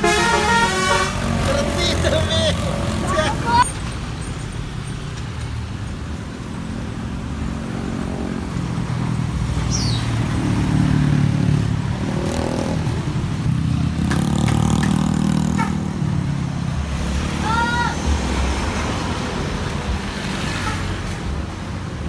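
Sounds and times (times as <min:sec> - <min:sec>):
vehicle passing: 0:00.0 - 0:04.2, 0:06.3 - 0:22.0.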